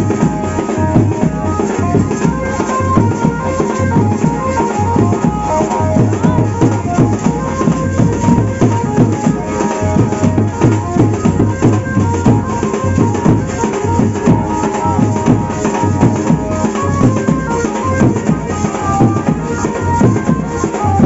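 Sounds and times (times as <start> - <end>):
held melody line: 0.0 - 21.0
large hand drums beating: 0.0 - 21.0.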